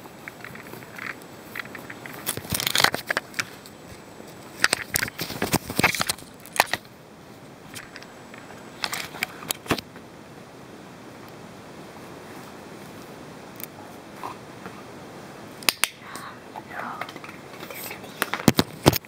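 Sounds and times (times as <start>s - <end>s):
crackling and rustling: 0.0s - 10.2s, 11.1s - 19.0s.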